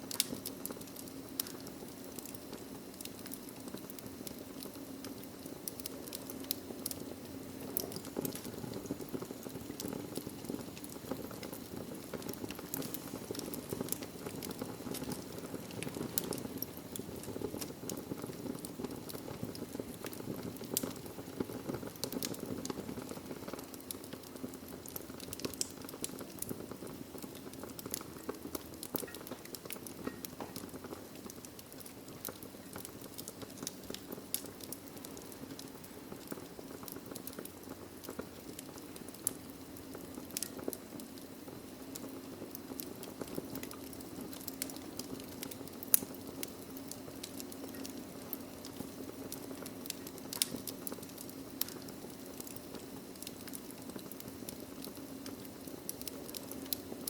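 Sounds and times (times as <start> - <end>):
logs crackling and popping: 0.0 - 57.0
low rush of flame: 0.0 - 57.0.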